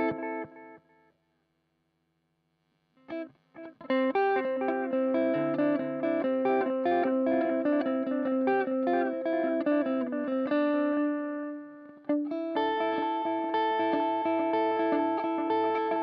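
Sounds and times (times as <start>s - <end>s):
electric guitar notes with echo: 0.0s - 0.7s, 3.6s - 16.0s.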